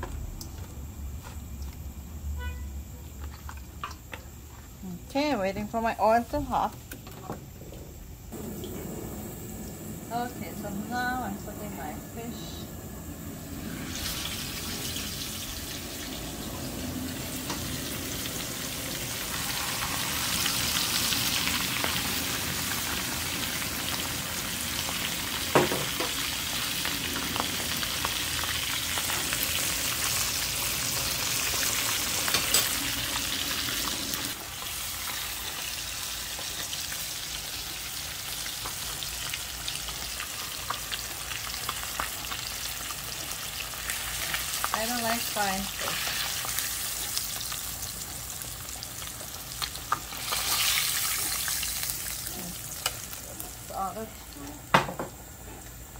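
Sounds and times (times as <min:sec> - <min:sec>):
fish sizzling in hot oil: 0:08.3 - 0:55.4.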